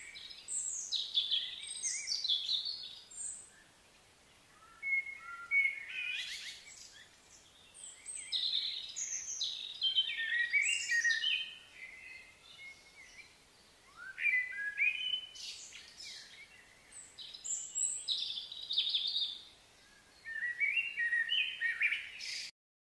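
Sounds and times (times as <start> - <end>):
songbird singing: 0.0 - 22.5.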